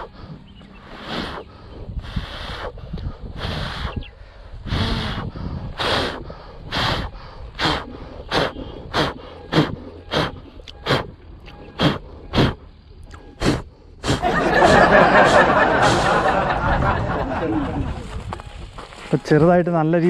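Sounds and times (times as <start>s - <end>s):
person blowing puffs of breath: 0.0s - 16.4s.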